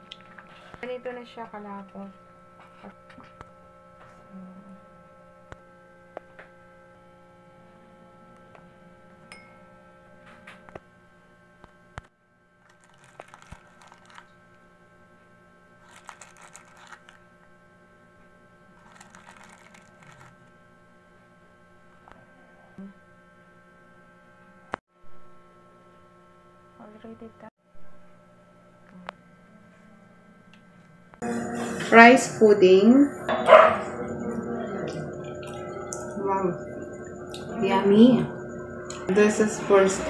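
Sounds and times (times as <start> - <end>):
steady electrical hum: 0.0 - 40.0.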